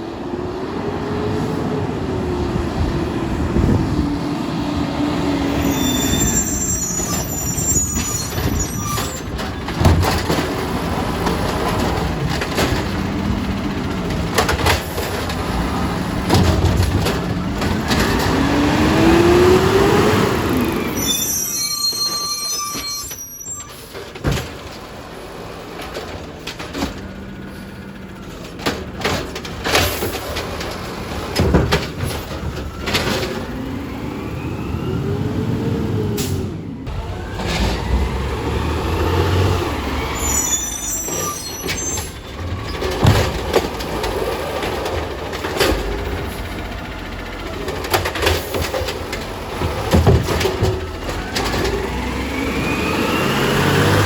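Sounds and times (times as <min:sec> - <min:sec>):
diesel engine running: 0:00.2 - 0:54.0.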